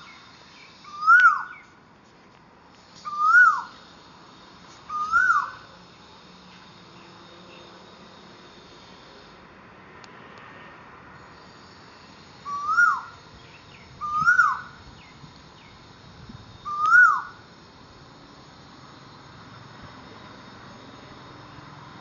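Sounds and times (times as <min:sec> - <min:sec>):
insect drone: 0:00.0 - 0:22.0.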